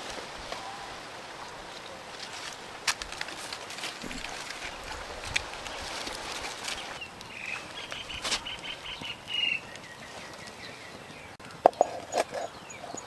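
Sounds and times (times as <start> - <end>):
dry palm leaves rustling: 0.0 - 11.6.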